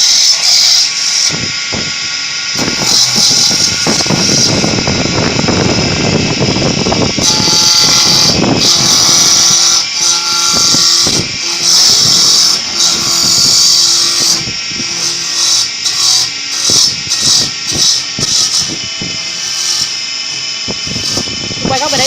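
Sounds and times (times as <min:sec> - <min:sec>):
woodworking machine cutting wood: 0:00.0 - 0:22.0.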